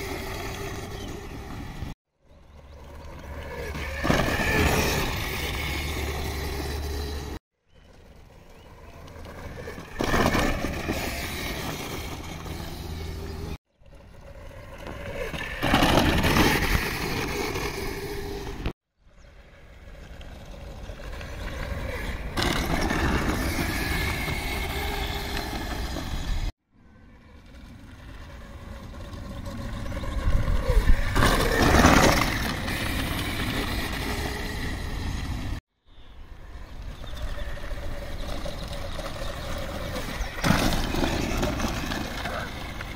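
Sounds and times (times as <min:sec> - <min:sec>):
electric quad bike passing: 0:00.0 - 0:42.9.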